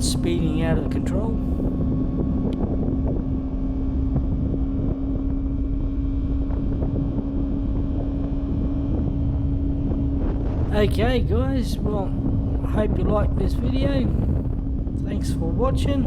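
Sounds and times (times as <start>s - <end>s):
motorcycle engine running: 0.0s - 15.0s
wind noise on microphone: 0.0s - 16.0s.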